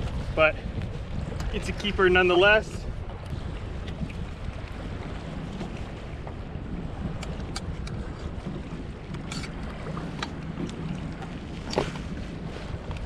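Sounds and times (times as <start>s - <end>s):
water moving against kayak: 0.0s - 13.0s
wind buffeting microphone: 0.0s - 13.0s.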